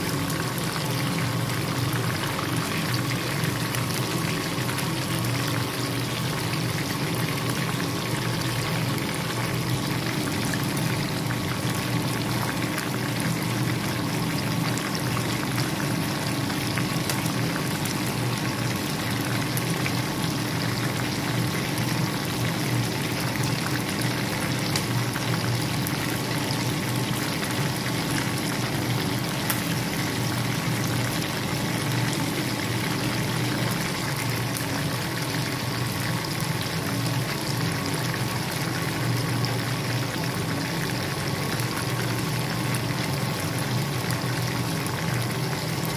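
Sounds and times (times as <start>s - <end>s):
chicken frying in hot oil: 0.0s - 45.9s.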